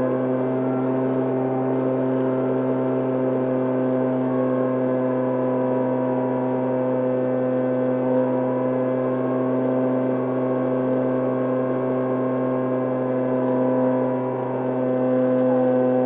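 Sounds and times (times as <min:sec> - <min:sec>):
electric motor and propeller humming: 0:00.0 - 0:16.0.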